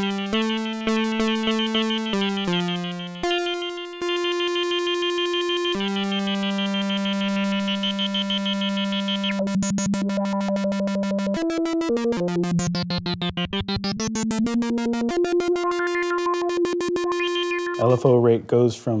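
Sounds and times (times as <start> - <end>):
pulsing analog synthesizer notes: 0.0 - 18.0.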